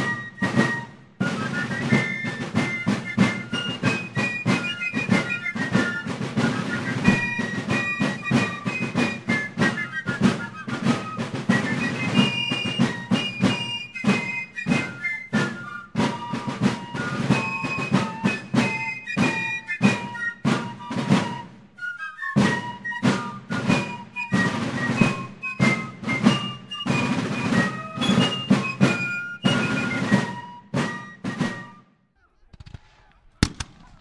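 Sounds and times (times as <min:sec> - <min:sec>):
fife melody: 0:00.0 - 0:32.5
drumbeats: 0:00.0 - 0:34.0.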